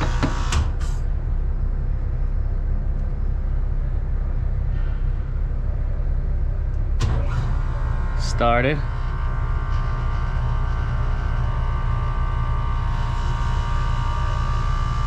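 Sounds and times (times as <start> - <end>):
refrigeration compressor humming: 0.0 - 15.0.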